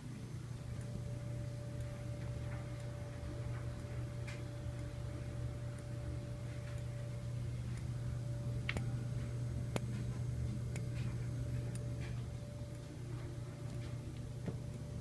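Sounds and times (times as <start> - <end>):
steady low hum: 0.0 - 15.0
fire alarm strobe clicks: 0.4 - 15.0.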